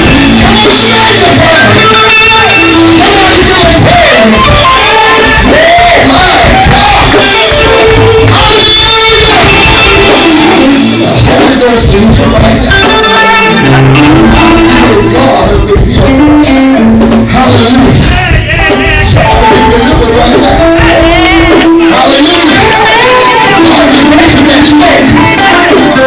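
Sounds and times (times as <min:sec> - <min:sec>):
band playing: 0:00.0 - 0:26.0
voices singing gospel: 0:00.0 - 0:26.0.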